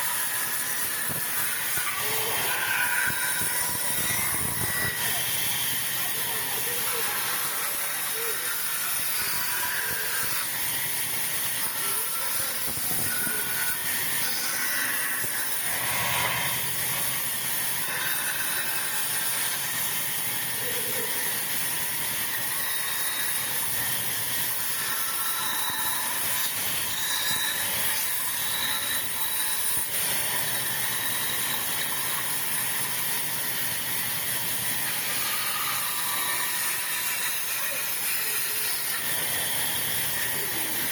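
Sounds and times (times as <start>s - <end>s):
saw cutting wood: 0.0s - 40.9s.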